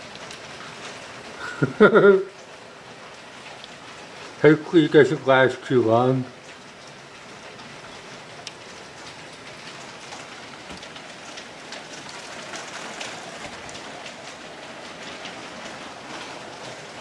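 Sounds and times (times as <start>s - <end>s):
hailstones pelting down: 0.0s - 17.0s
hailstones ticking on surfaces: 0.0s - 17.0s.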